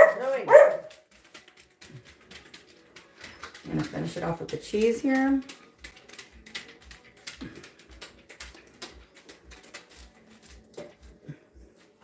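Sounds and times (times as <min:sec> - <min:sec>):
paper crinkling: 0:00.5 - 0:11.2.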